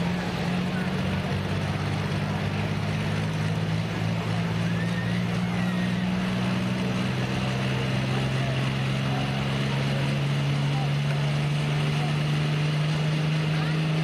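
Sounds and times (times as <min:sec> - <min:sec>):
tractor engine idling low: 0:00.0 - 0:14.0.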